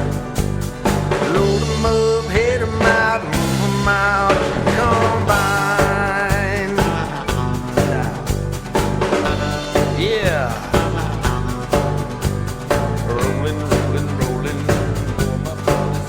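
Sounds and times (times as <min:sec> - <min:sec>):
country instrumental music: 0:00.0 - 0:16.0.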